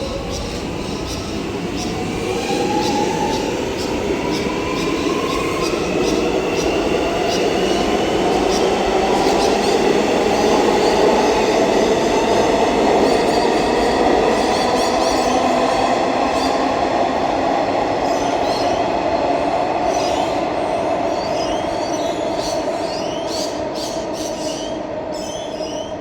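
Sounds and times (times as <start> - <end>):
high-pitched train whine: 0.0 - 26.0.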